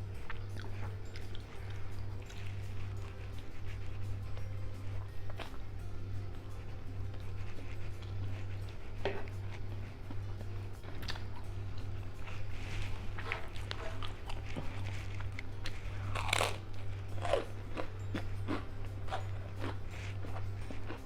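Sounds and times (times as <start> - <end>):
chewing crunchy food: 0.0 - 21.0
steady low hum: 0.0 - 21.0.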